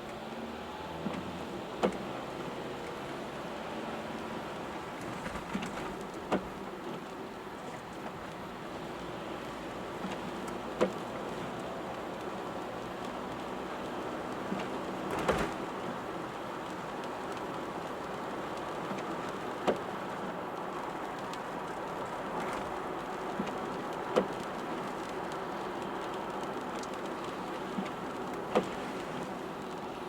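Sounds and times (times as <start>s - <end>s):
car tyre noise on wet road: 0.0s - 30.0s
steady rain: 0.0s - 30.0s.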